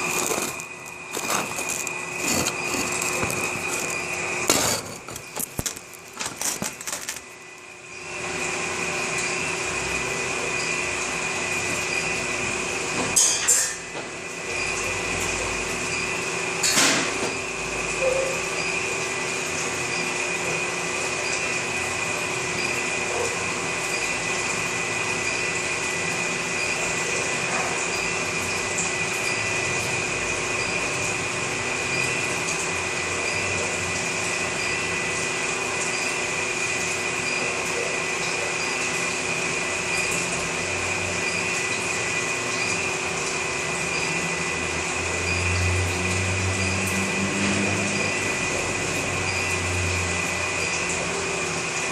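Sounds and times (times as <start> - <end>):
electric furnace whine and hum: 0.0 - 51.9.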